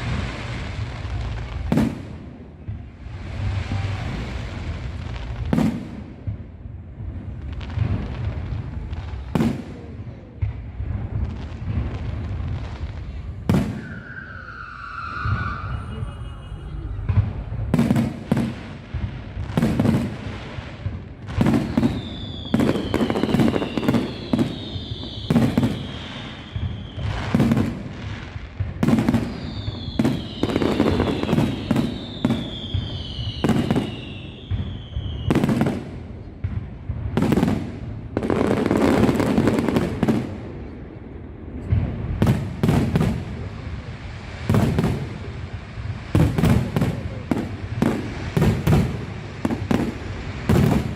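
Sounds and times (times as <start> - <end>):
falling fireworks whistles: 0.0 - 6.4, 7.6 - 40.7, 41.7 - 50.9
fireworks bangs: 0.0 - 50.9.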